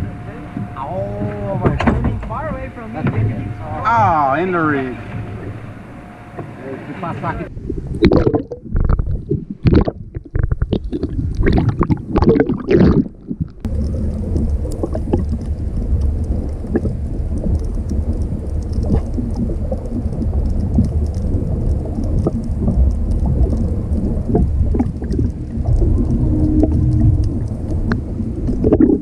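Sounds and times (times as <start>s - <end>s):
boat engine rumble: 0.0s - 29.0s
wind on microphone: 0.0s - 29.0s.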